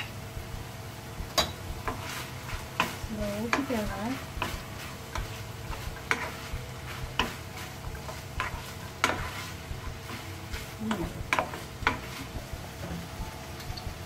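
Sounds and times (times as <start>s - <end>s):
mince sizzling: 0.0s - 14.0s
wooden spatula scraping frying pan: 1.4s - 13.2s.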